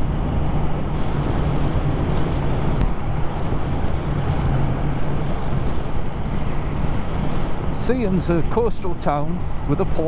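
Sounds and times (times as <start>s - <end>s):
wind rush on microphone: 0.0s - 10.0s.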